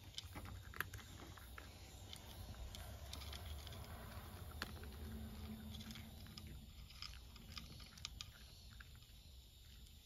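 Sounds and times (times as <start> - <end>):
cat crunching food: 0.0 - 10.0.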